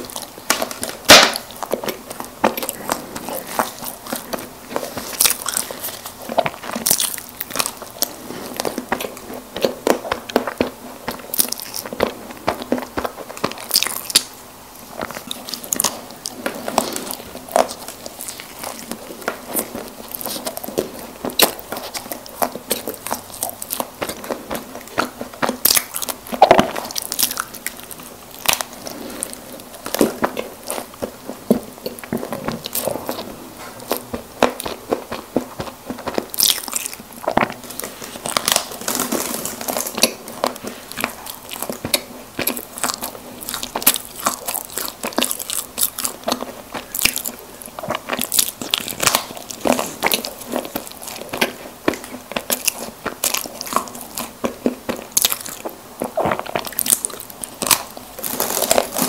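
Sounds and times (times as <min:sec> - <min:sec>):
chewing with wet mouth clicks: 0:00.0 - 0:38.7, 0:39.7 - 0:59.0.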